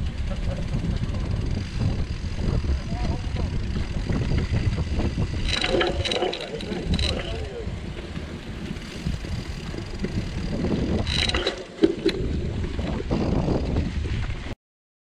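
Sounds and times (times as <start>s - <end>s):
bike tyres rumbling on dirt: 0.0s - 14.6s
wind buffeting microphone: 0.0s - 14.6s.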